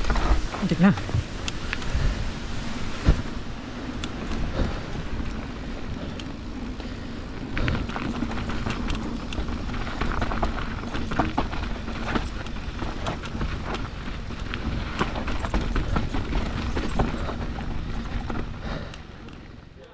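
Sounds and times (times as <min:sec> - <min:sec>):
tyre noise over dirt and rock: 0:00.0 - 0:19.2
wind rumbling on microphone: 0:00.0 - 0:19.8
bike rattles and clicks: 0:00.0 - 0:19.9.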